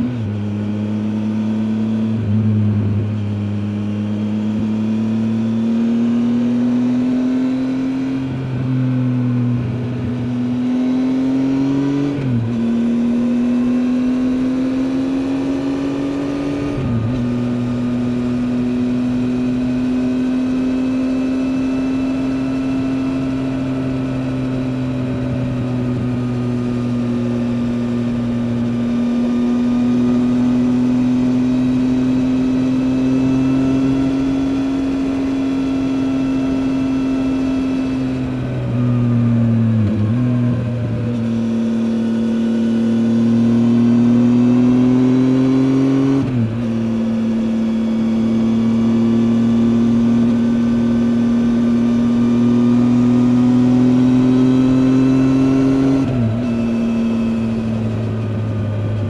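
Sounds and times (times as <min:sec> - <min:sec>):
motorcycle engine under way: 0:00.0 - 0:59.0.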